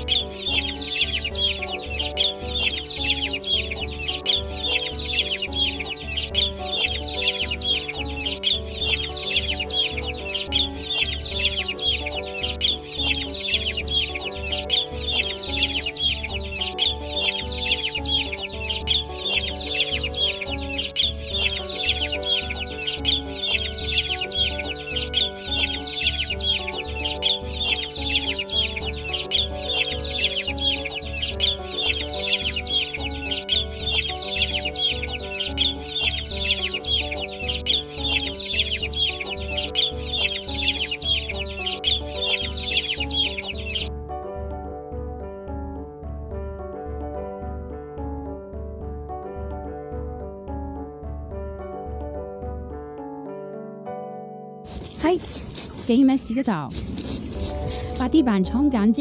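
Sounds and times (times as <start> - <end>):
chicks peeping: 0.0 - 43.9, 54.7 - 58.8
background music with steady beat: 0.0 - 53.4.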